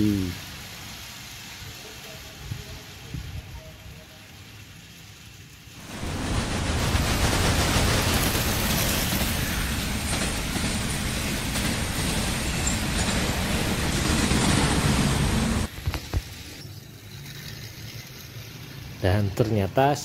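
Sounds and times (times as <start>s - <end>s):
toy train rumbling on plastic track: 1.0s - 20.0s.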